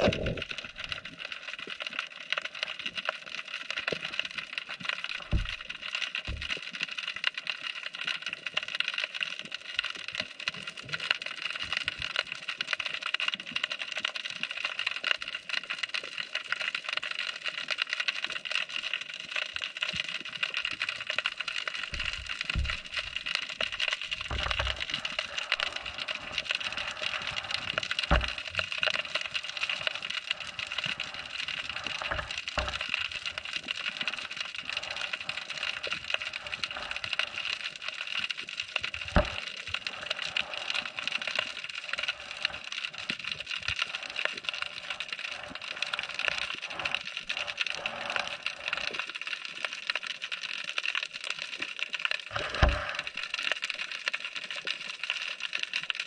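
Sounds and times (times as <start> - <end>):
snapping shrimp crackle underwater: 0.0 - 56.0.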